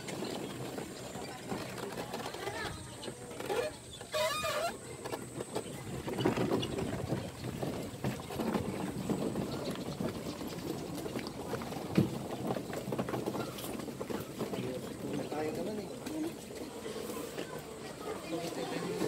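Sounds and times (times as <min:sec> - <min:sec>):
faint voices: 0:00.0 - 0:19.0
footsteps: 0:00.0 - 0:19.0.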